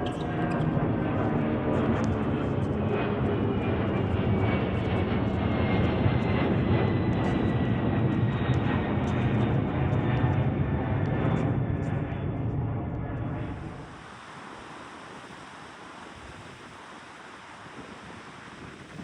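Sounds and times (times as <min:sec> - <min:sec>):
airplane engines droning: 0:00.0 - 0:19.0.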